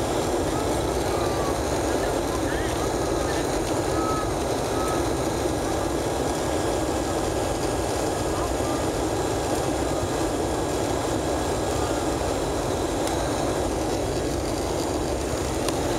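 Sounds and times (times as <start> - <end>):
airplane cabin engine rush: 0.0 - 15.9.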